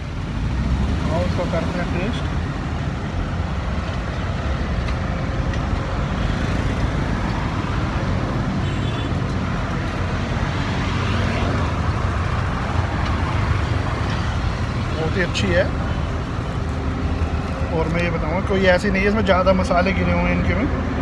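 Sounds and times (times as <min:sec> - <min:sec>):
traffic on a busy road: 0:00.0 - 0:21.0.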